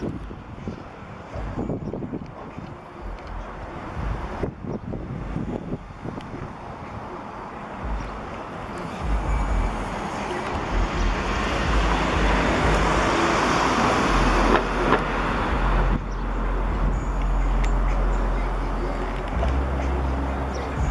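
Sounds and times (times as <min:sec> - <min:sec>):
low traffic rumble: 0:00.0 - 0:20.9
vehicle passing: 0:00.0 - 0:20.9.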